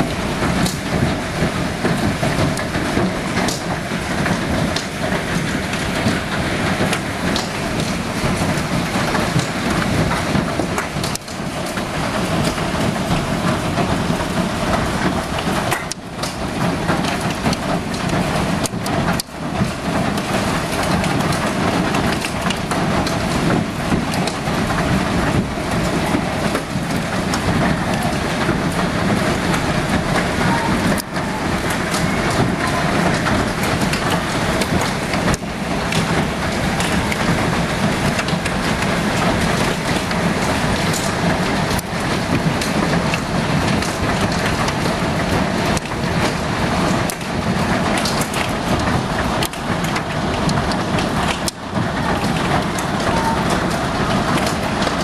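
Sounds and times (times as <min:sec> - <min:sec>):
hail and heavy rain clattering: 0:00.0 - 0:55.0.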